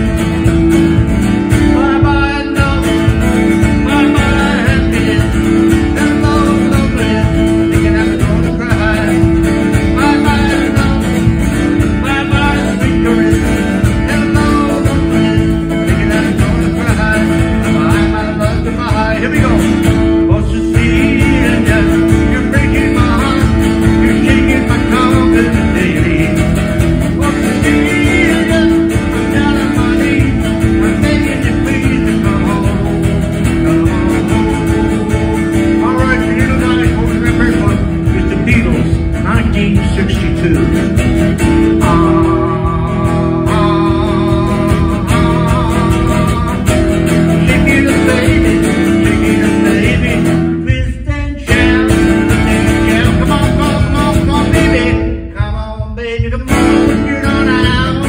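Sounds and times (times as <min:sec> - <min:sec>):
acoustic guitar strumming: 0:00.0 - 0:58.0
man singing: 0:00.0 - 0:58.0.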